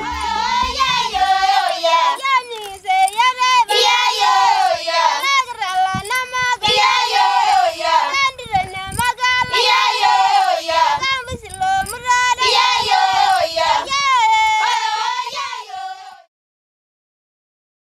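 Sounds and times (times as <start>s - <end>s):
women singing together: 0.0s - 16.3s.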